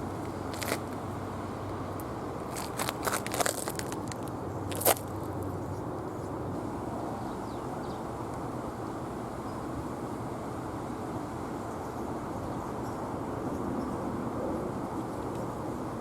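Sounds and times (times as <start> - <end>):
low rumbling outdoor noise: 0.0 - 16.0.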